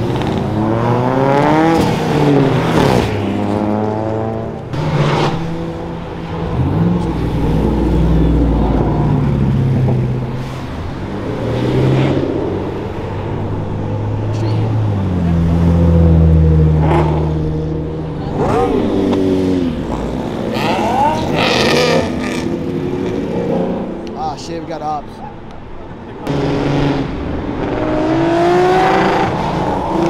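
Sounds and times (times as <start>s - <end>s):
cars accelerating and revving: 0.0s - 30.0s.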